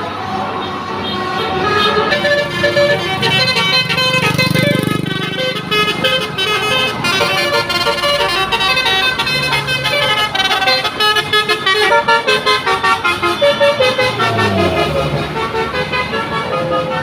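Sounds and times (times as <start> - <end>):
musical air horn tune: 1.0 - 17.0.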